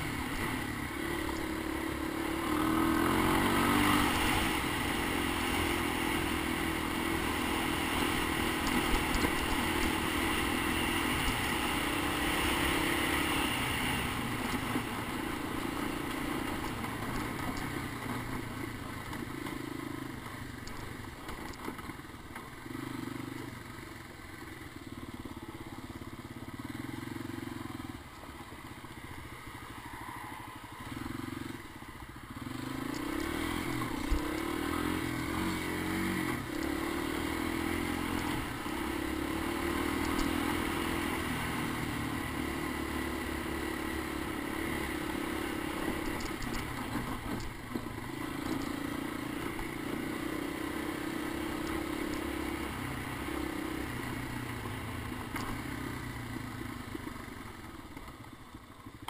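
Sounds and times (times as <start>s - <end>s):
three-wheeler engine running: 0.0s - 59.0s.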